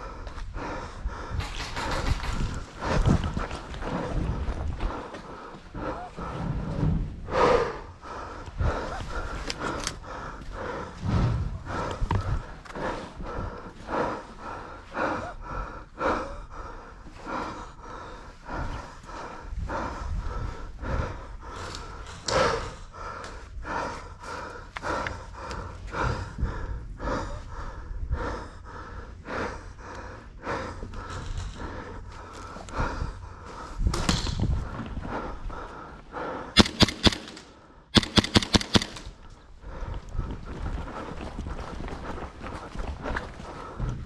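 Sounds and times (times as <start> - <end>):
person breathing hard: 0.0 - 44.0.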